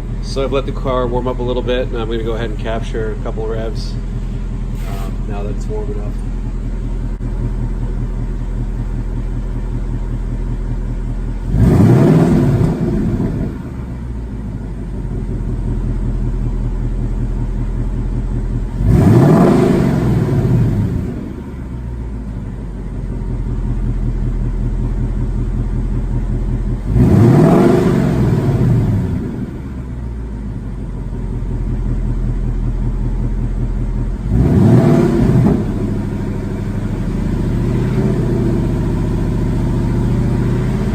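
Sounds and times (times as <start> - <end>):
car engine revving: 0.0 - 30.3, 31.0 - 40.9
car engine idling: 0.0 - 40.9.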